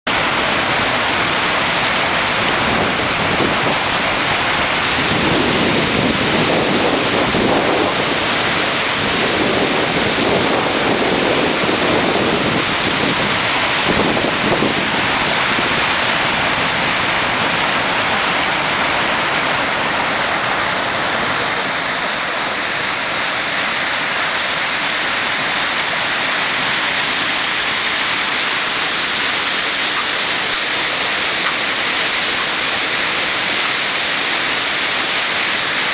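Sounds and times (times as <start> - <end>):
river water rushing: 0.1 - 35.9.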